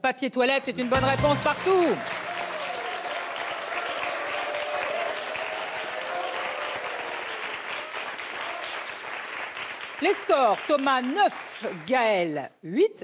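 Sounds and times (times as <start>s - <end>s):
audience applauding: 0.8s - 12.0s.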